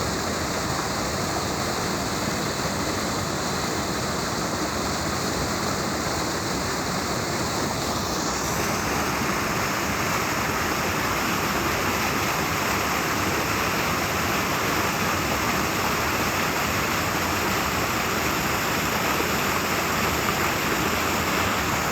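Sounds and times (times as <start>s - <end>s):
river current rushing: 0.0s - 21.9s.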